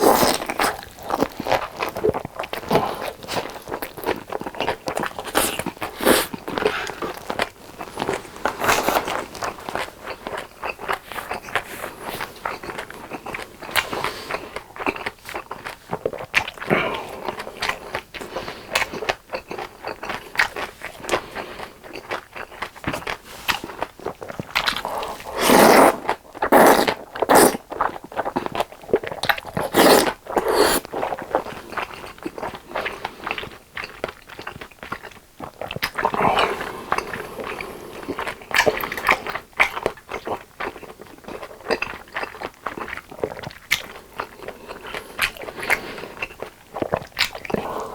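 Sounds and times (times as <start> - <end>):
chewing food: 0.0 - 47.9.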